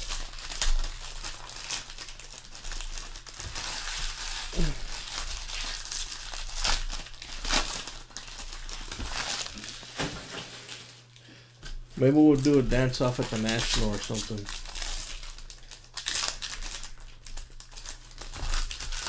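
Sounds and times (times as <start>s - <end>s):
foil wrappers crinkling: 0.0s - 19.0s.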